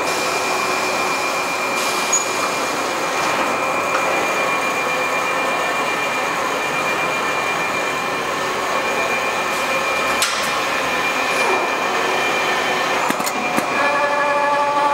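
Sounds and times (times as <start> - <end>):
high whine from machine drives: 0.0 - 14.9
quilting machine running: 2.3 - 14.9.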